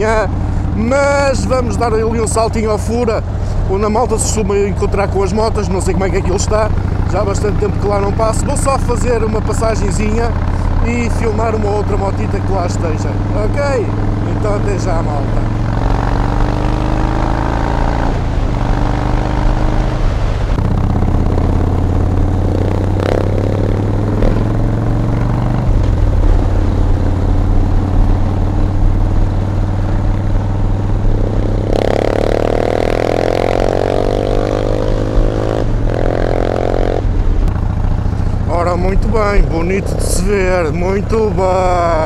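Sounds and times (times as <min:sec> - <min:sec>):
motorcycle engine: 0:00.0 - 0:42.0.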